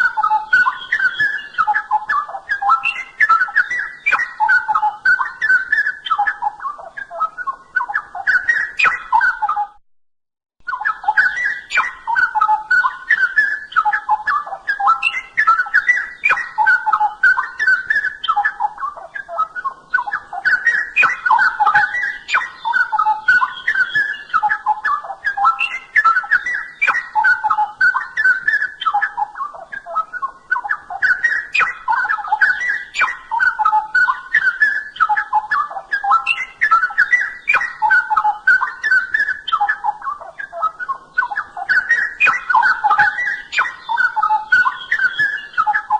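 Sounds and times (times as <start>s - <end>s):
bird whistled warbling song: 0.0s - 9.8s, 10.6s - 45.9s.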